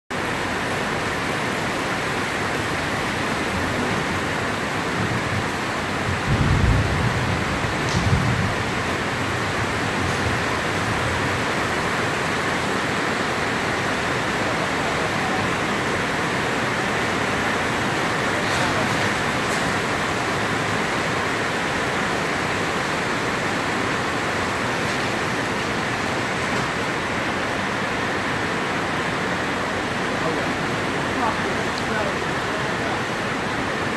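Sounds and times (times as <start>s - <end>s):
rain on a metal roof: 0.1s - 33.9s.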